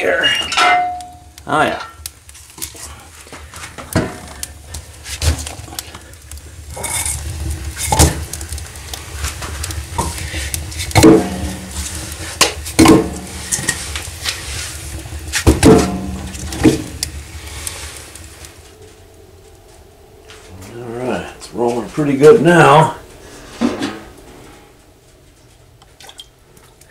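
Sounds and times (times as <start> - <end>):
steady low rumble: 0.8 - 25.8.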